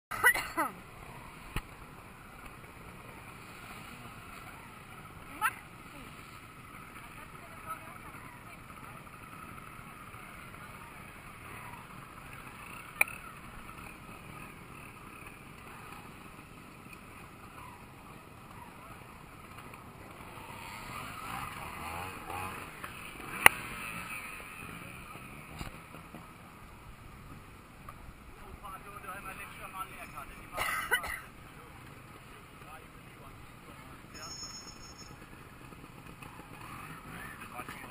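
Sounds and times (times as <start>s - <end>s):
motorcycle engine revving: 0.7s - 28.4s, 31.3s - 37.9s.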